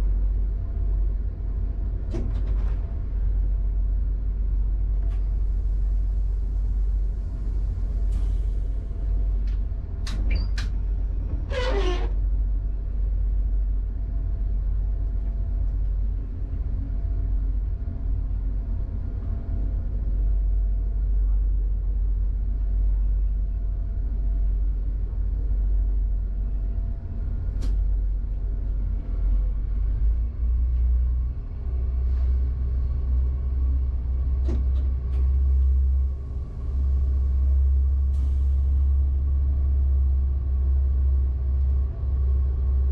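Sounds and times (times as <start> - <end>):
train rumbling in tunnel: 0.0 - 42.9.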